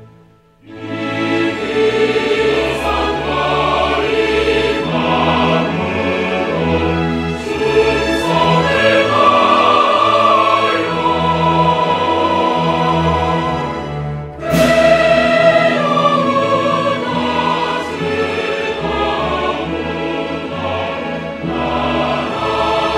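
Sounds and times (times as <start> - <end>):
choir singing long notes: 0.0 - 22.9
orchestral accompaniment: 0.0 - 22.9.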